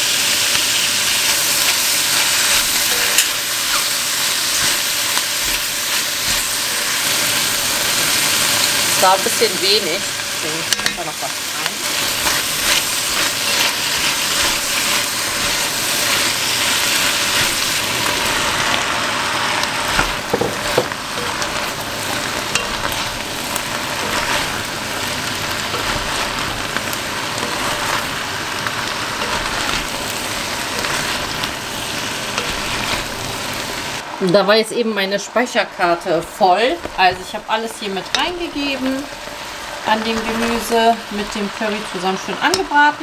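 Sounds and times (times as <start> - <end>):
vegetables sizzling in a pot: 0.0 - 43.0
wooden spatula stirring: 1.1 - 9.8, 10.7 - 18.8, 19.6 - 34.0, 36.1 - 41.8.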